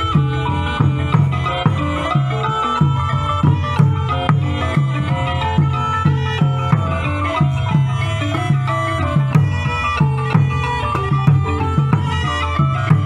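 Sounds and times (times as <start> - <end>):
drum beating steady pulse: 0.0 - 13.0
pitched percussion: 0.0 - 13.0
reedy wind melody: 0.0 - 13.0.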